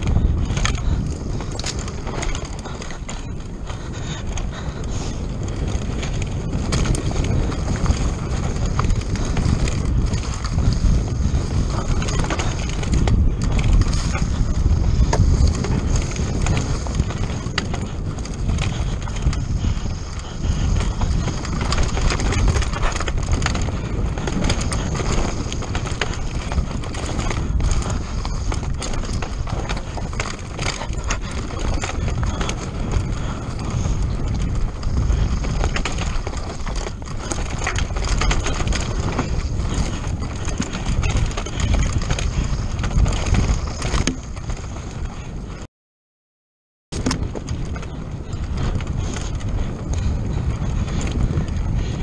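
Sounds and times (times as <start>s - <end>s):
tyres rumbling on dirt and stones: 0.0s - 45.2s
bike chain and frame rattling: 0.0s - 45.6s, 46.9s - 52.0s.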